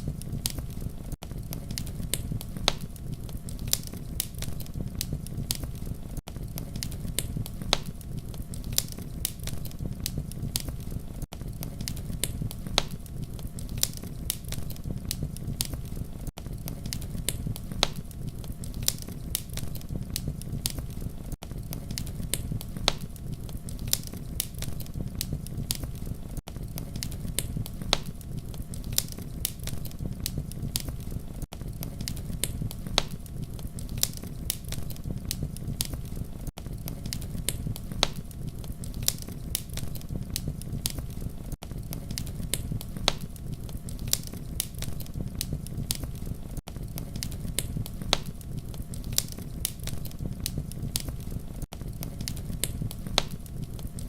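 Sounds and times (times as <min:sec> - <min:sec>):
low rumble of flames: 0:00.0 - 0:54.0
wood crackles and pops: 0:00.0 - 0:54.0.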